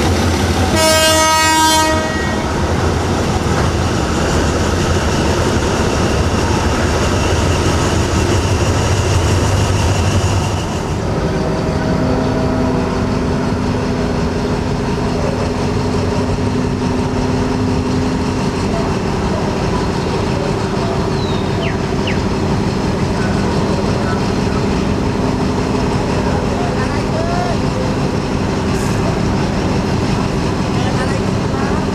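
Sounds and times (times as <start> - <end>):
diesel locomotive engines humming: 0.0 - 31.9.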